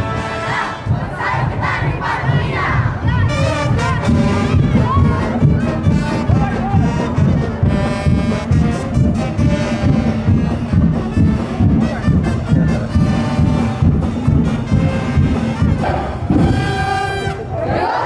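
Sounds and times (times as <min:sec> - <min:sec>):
drums beating steady rhythm: 0:00.0 - 0:17.6
trumpets and brass playing: 0:00.0 - 0:18.0.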